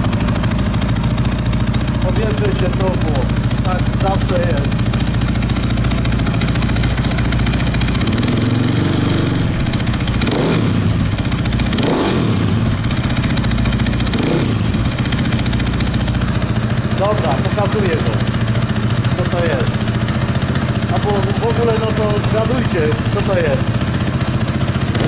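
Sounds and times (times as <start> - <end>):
engine throttle blips: 0.0 - 25.0
motorcycle engine idling: 0.0 - 25.0.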